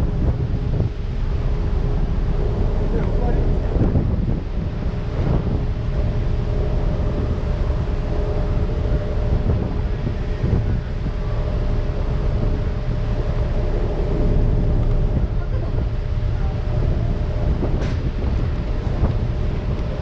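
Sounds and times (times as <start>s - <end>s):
ferry engine running: 0.0s - 20.0s
wind buffeting microphone: 0.0s - 20.0s.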